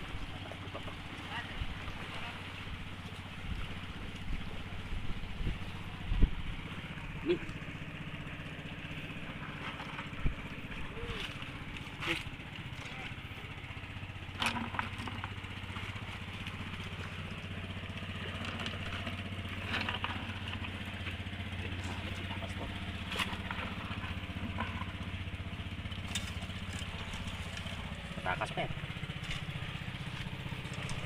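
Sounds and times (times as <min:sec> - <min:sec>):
small engine running: 0:00.0 - 0:31.0.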